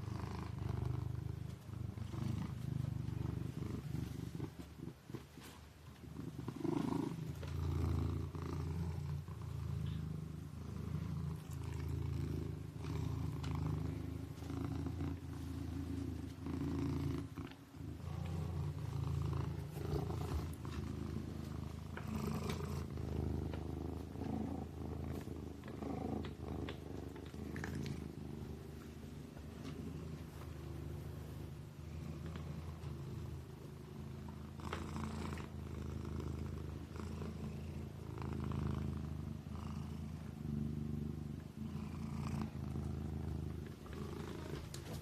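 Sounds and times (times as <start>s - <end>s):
kitten purring: 0.0s - 45.0s.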